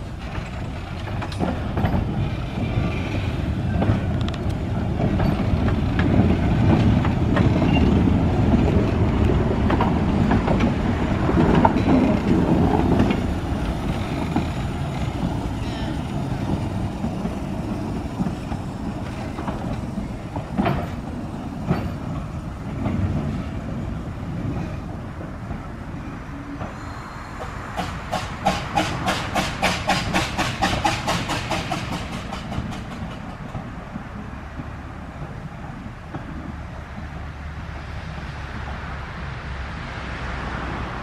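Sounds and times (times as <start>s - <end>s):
steam locomotive rumble: 0.0s - 39.4s.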